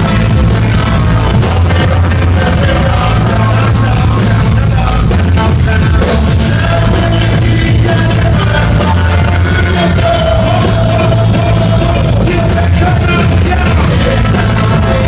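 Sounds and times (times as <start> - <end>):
live band playing loud: 0.0 - 15.0.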